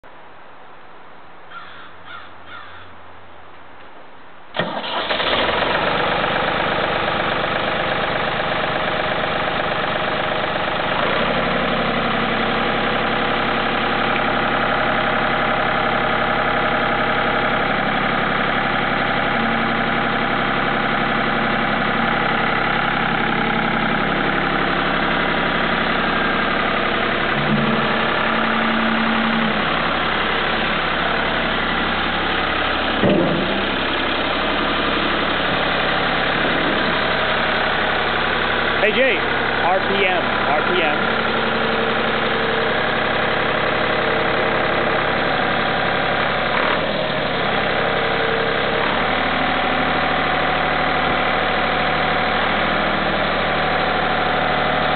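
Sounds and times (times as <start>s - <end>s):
tractor engine starting: 4.5s - 54.9s.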